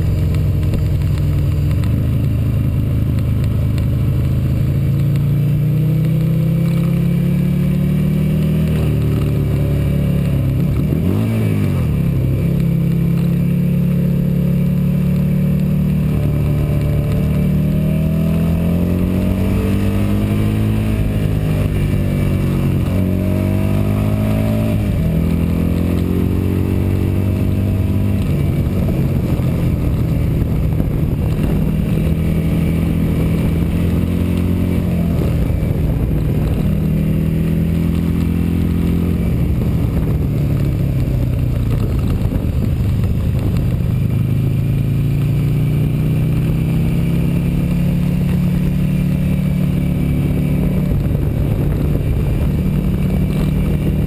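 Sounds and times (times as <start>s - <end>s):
motorcycle engine running hard: 0.0s - 54.0s.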